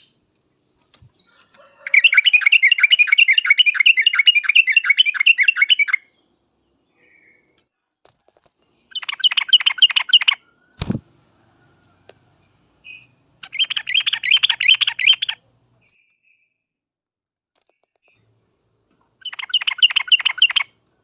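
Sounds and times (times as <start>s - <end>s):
bird chattering song: 0.0s - 7.6s, 8.6s - 11.0s, 12.8s - 16.5s, 17.6s - 21.0s.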